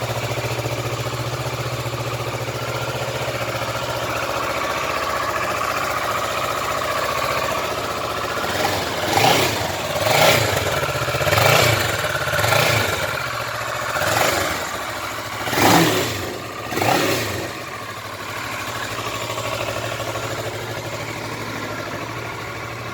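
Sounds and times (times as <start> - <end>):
motorcycle engine idling and revving: 0.0 - 22.9.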